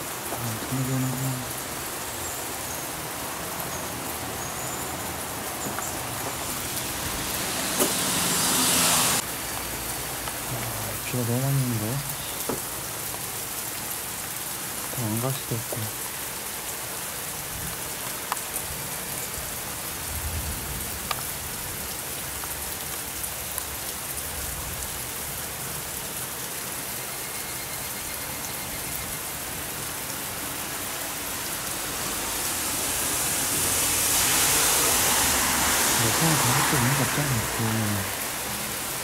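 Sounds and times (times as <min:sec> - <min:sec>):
heavy rain on a pond: 0:00.0 - 0:39.0.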